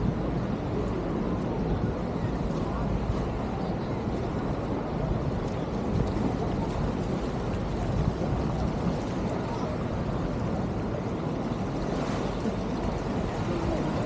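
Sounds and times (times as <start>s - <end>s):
surf washing ashore: 0.0s - 14.0s
wind noise on microphone: 0.0s - 14.0s.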